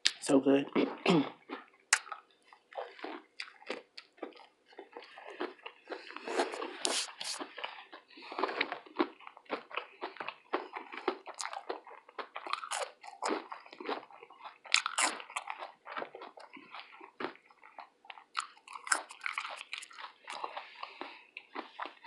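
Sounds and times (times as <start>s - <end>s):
mouth chewing fried food: 0.0s - 22.0s.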